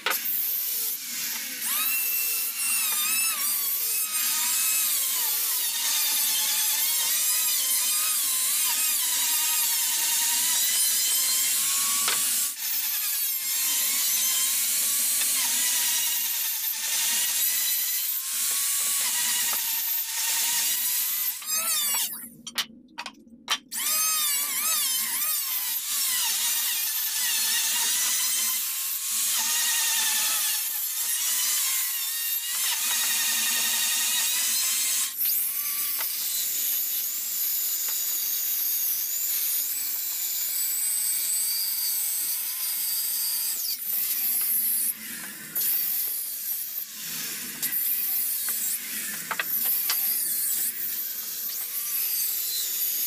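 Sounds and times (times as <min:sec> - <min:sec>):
electric planer shaving wood: 0:00.0 - 0:22.1, 0:23.7 - 0:36.9, 0:39.9 - 0:53.0
circular saw cutting wood: 0:00.0 - 0:22.2, 0:23.6 - 0:53.0.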